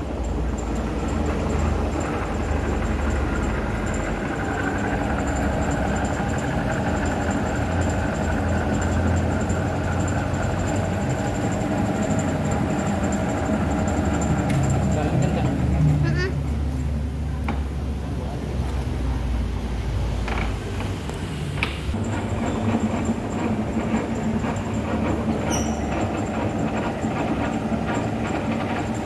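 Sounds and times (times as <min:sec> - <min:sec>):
metal lathe running: 0:00.0 - 0:18.9, 0:19.8 - 0:29.0.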